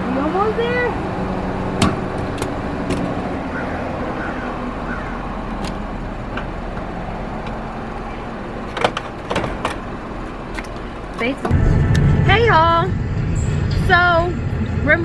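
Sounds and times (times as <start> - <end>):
car rumble and hiss: 0.0 - 15.0.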